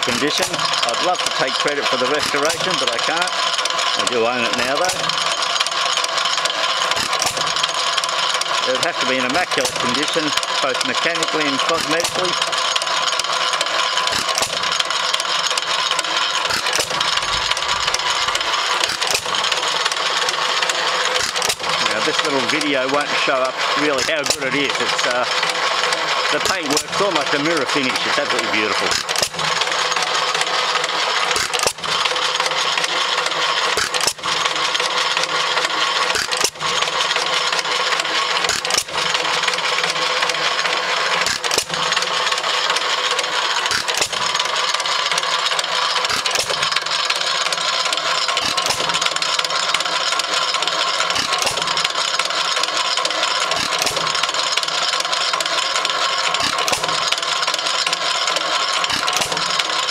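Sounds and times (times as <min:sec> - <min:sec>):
stationary engine clattering: 0:00.0 - 0:59.9.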